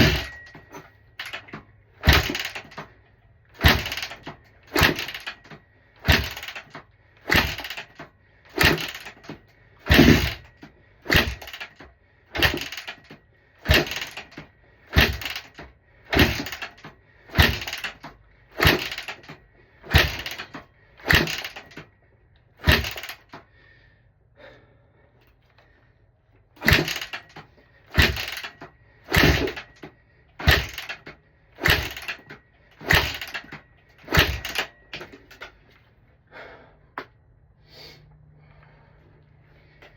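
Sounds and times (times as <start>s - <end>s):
motorcycle engine kick-started: 0.0s - 22.0s, 22.6s - 23.5s, 26.6s - 35.7s.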